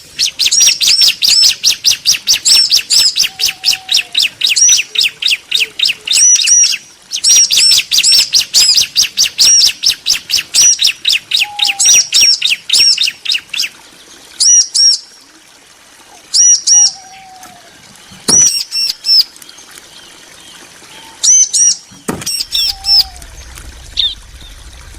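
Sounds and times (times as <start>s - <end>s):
birds chirping high and fast: 0.0s - 15.2s, 16.0s - 24.9s.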